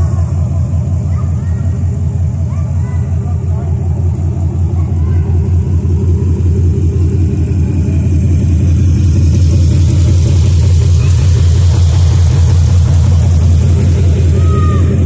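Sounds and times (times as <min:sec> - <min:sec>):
v eight engine idling: 0:00.0 - 0:15.0.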